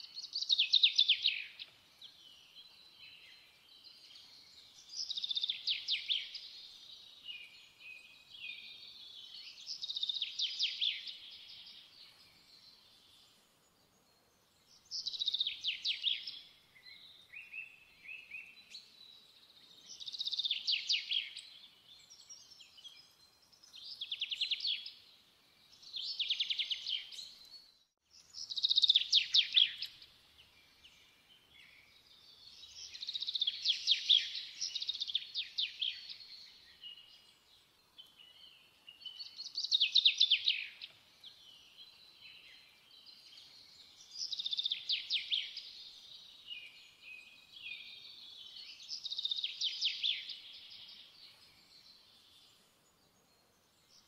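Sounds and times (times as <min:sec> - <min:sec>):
songbird singing trilled notes: 0:00.0 - 0:13.3, 0:14.0 - 0:54.0.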